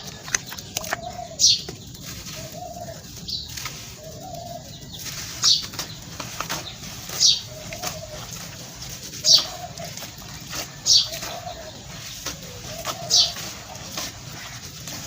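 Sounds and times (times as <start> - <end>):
pigeon cooing: 0.0 - 15.0
sand-cement lumps crunching: 0.0 - 15.0.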